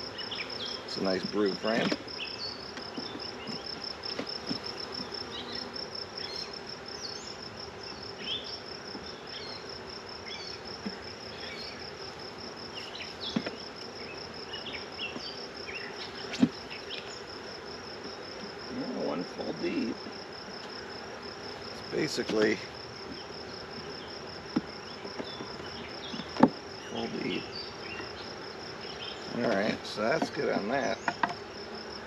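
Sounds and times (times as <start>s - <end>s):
honeybee swarm buzzing: 0.0s - 32.0s
pulsed insect chirp: 0.0s - 32.0s.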